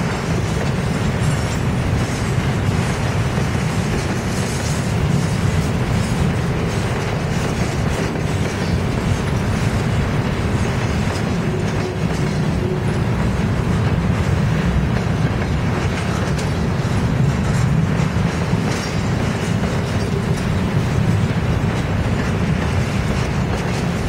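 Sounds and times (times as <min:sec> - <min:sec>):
train rumbling on rails: 0:00.0 - 0:24.0
wheels clicking over track: 0:00.0 - 0:24.0.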